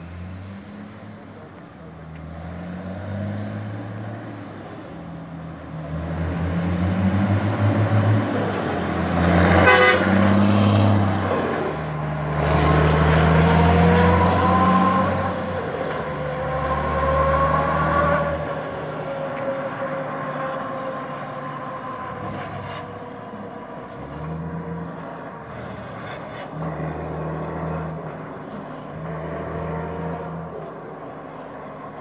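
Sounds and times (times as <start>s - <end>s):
truck diesel engine passing: 0.0s - 32.0s.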